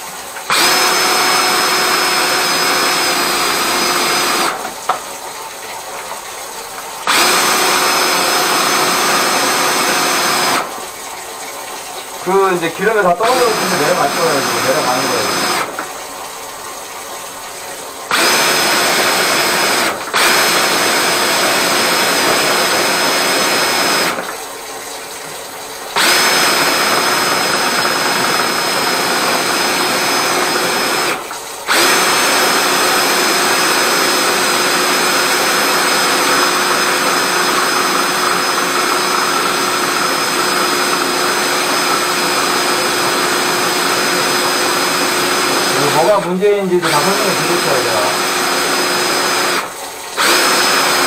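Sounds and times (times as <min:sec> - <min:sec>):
drain-cleaning machine motor whine: 0:00.0 - 0:05.3, 0:07.0 - 0:51.0.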